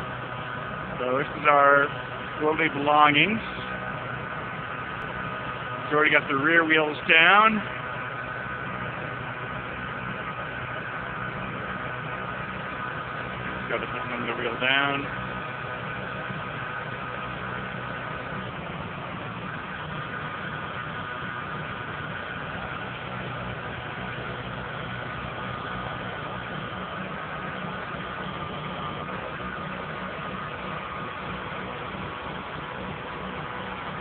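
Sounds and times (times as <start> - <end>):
faint high whine: 0.0 - 34.0
truck engine idling: 0.0 - 34.0.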